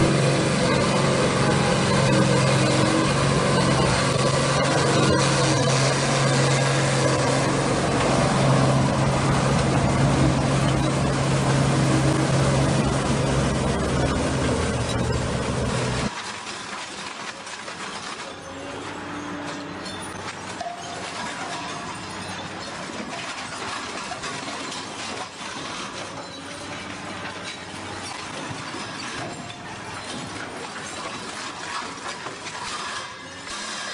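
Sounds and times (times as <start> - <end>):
industrial shredder grinding: 0.0 - 33.9
round baler clattering rattle: 0.0 - 33.9
tractor running: 0.0 - 33.9.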